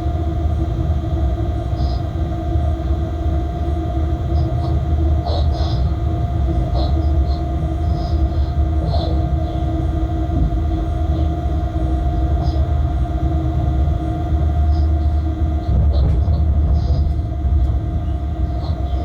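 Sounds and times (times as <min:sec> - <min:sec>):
locomotive low rumble: 0:00.0 - 0:19.0.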